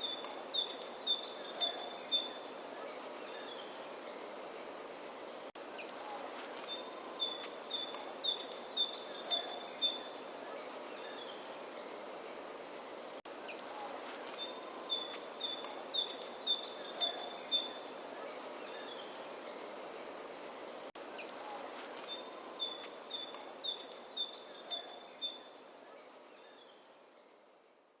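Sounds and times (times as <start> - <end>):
outdoor background hiss: 0.0 - 28.0
songbird singing: 0.0 - 28.0.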